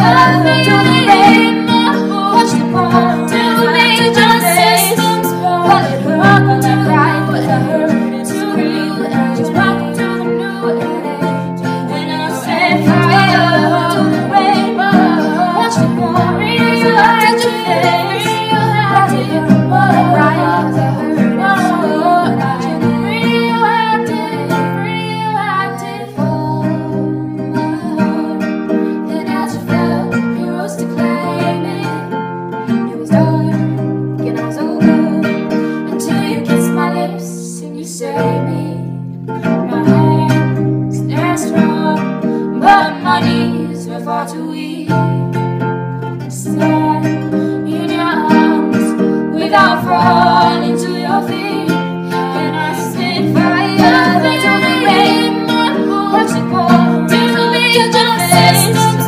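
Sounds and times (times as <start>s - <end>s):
woman singing pop song: 0.0s - 45.6s, 46.2s - 59.0s
strummed acoustic guitar: 0.0s - 59.0s.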